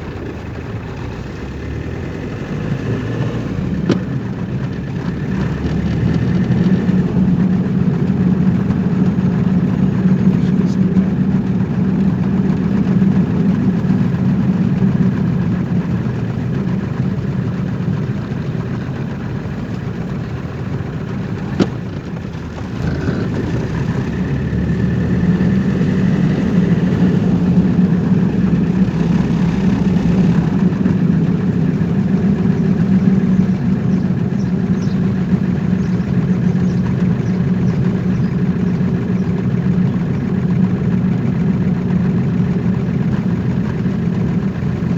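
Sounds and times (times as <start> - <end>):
car engine and road hum: 0.0 - 44.9.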